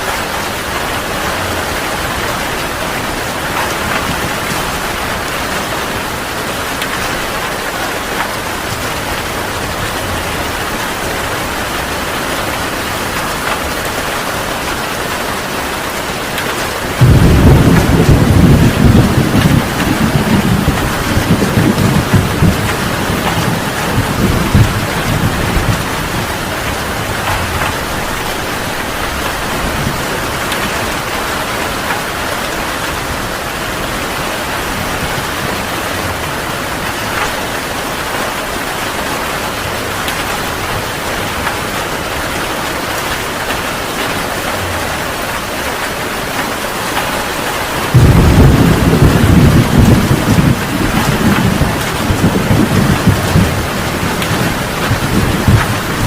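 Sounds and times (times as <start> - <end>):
thunder rumbling: 0.0 - 45.5, 47.7 - 56.0
heavy rain: 0.0 - 56.0.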